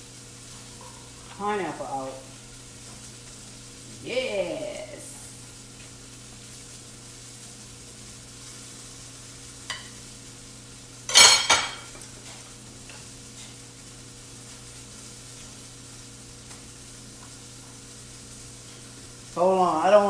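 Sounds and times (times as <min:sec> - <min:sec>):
food sizzling on stove: 0:00.0 - 0:20.0.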